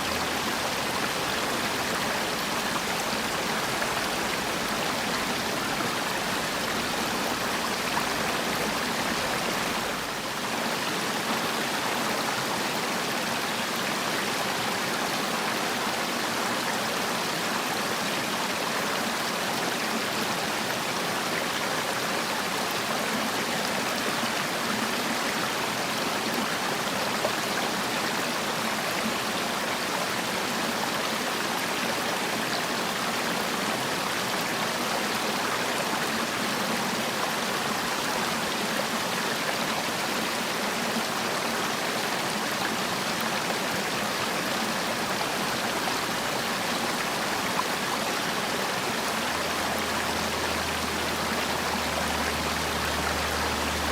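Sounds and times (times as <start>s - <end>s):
stream water flowing over rocks: 0.0s - 53.9s.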